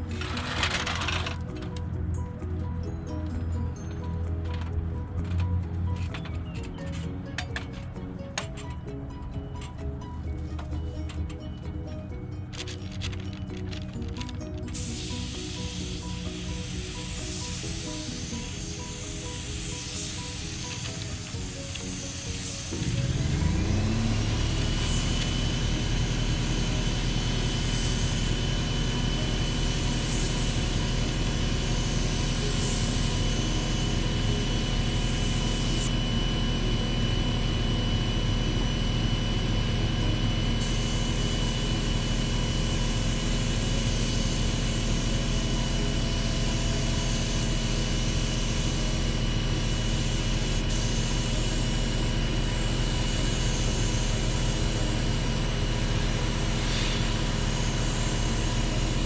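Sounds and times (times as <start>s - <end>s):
motor spinning up and whining: 0.0s - 59.0s.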